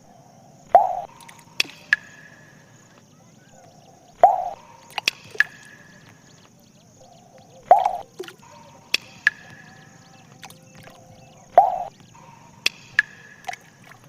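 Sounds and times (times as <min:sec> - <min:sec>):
water drops plopping into water: 0:00.7 - 0:14.0.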